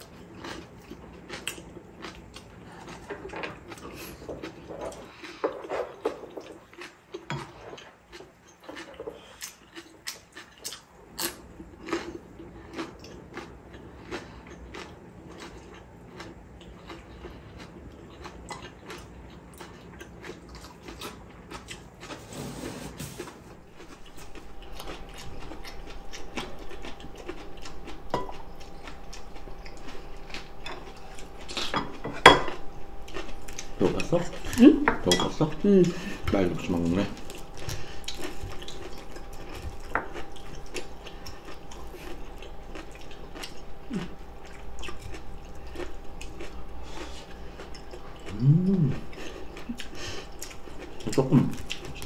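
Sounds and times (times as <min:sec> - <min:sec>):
chewing: 0:00.0 - 0:22.3, 0:23.1 - 0:52.0.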